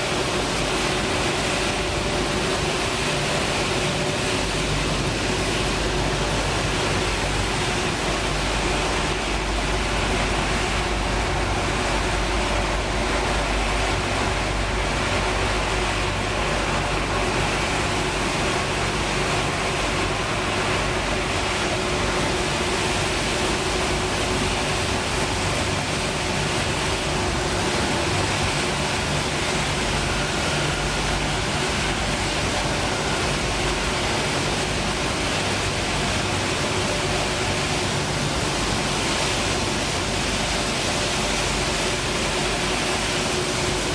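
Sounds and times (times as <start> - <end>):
production line machinery running: 0.0 - 43.9.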